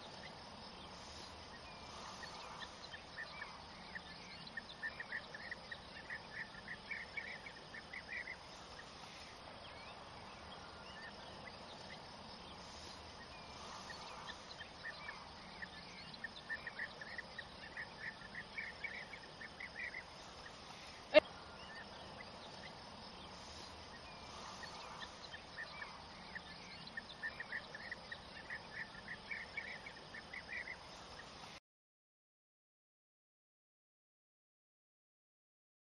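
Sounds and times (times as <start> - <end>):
faint insect buzz: 0.0 - 31.6.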